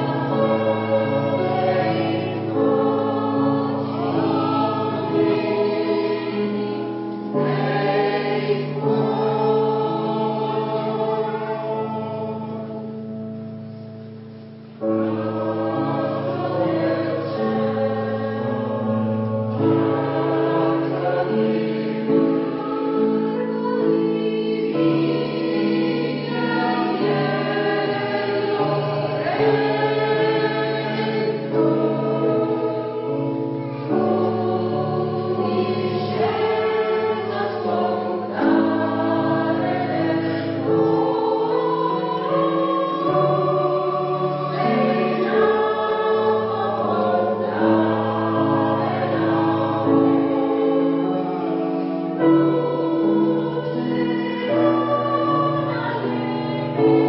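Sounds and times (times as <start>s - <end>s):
choir singing sustained chords: 0.0s - 57.0s.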